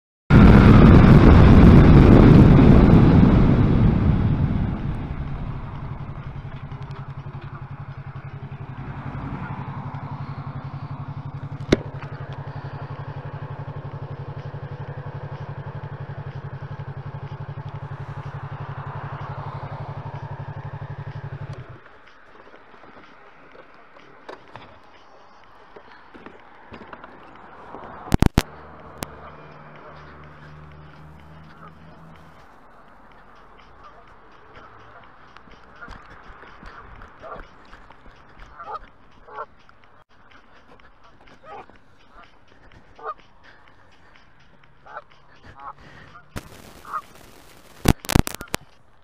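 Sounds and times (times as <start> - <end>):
wind and riding noise: 0.3 - 49.0
motorcycle engine idling: 1.1 - 26.8, 27.4 - 49.0.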